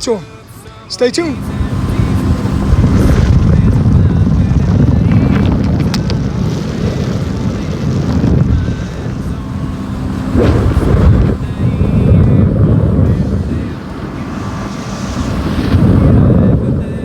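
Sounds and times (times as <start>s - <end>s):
boat engine running: 0.0s - 17.0s
wind buffeting microphone: 1.2s - 17.0s.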